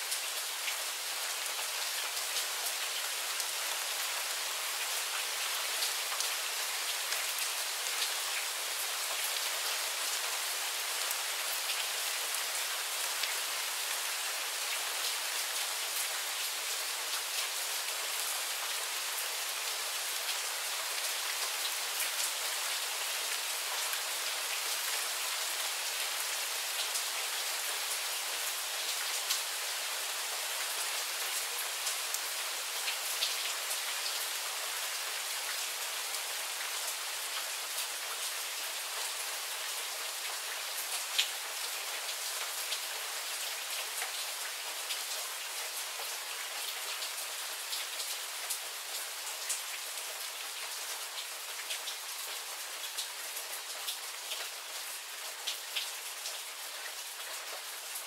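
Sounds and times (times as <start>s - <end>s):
rain patter: 0.0s - 58.0s.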